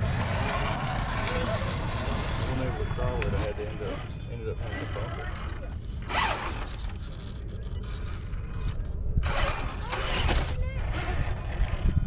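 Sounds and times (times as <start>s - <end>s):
toy car motor and gears whirring: 0.0s - 12.0s.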